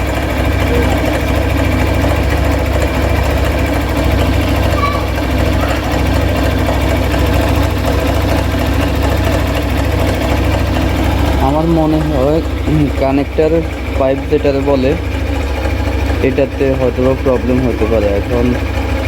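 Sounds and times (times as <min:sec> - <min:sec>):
fast ticking from engine: 0:00.0 - 0:19.0
motorcycle engine idling: 0:00.0 - 0:19.0.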